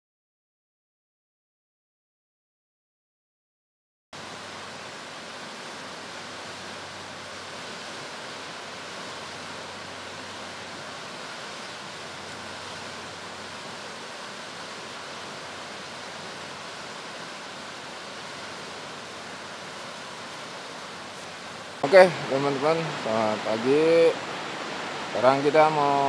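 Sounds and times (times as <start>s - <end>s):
river flowing: 4.2s - 26.0s.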